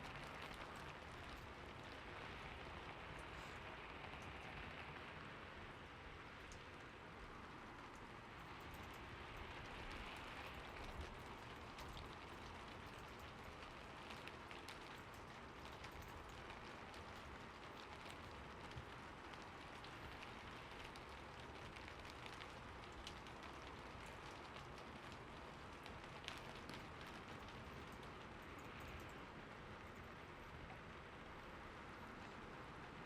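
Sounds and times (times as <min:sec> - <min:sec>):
raindrops ticking: 0:00.0 - 0:33.0
steady rain: 0:00.0 - 0:33.0.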